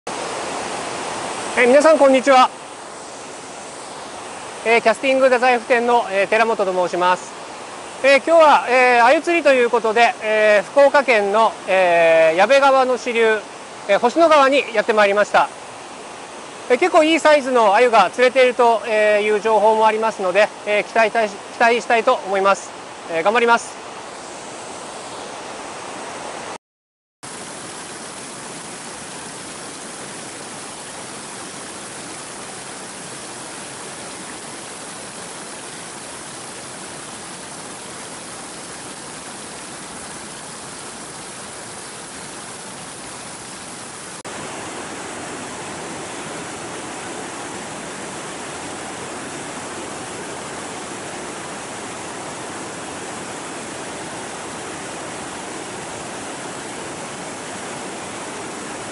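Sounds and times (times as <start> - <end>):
river rushing over rocks: 0.1 - 26.6, 27.3 - 58.9.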